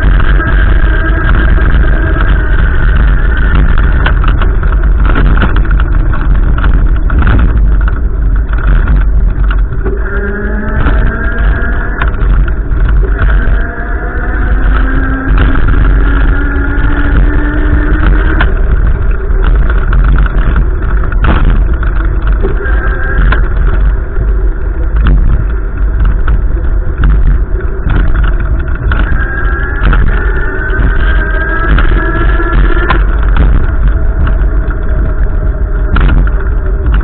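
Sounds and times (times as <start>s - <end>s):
vehicle engine accelerating: 0.0s - 37.0s
wind buffeting microphone: 0.0s - 37.0s.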